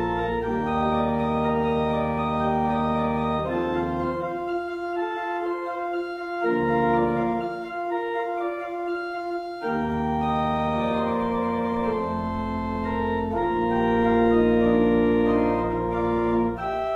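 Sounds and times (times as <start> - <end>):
deep organ bass line: 0.0 - 16.9
organ chords: 0.0 - 16.9.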